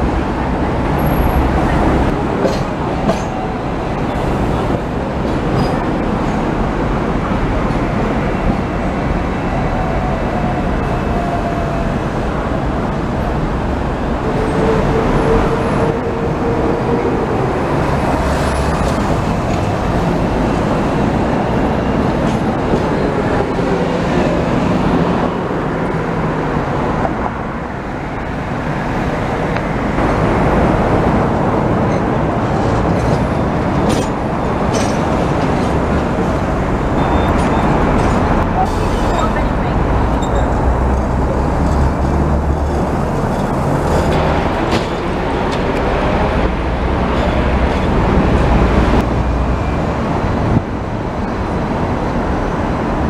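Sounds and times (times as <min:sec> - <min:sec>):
buses driving past: 0:00.0 - 0:53.0
busy street traffic: 0:00.0 - 0:53.0.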